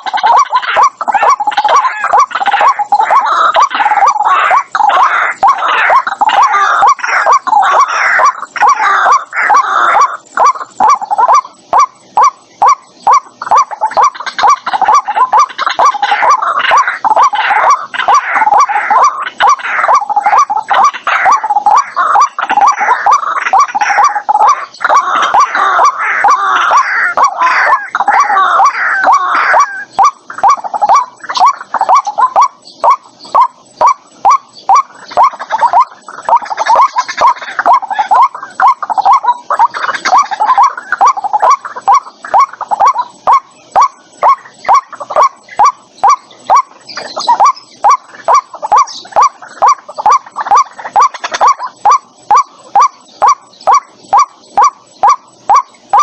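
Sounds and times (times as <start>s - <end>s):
waterhen calling rapid notes: 0.0s - 56.0s.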